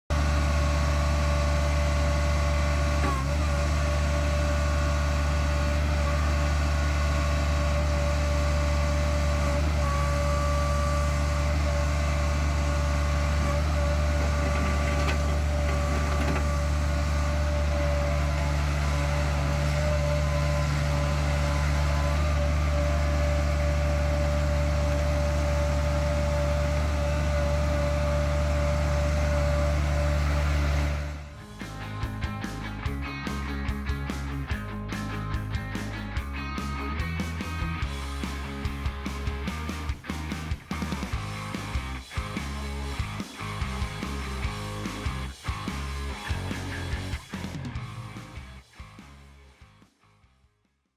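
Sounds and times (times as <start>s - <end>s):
diesel engine running: 0.0s - 49.4s.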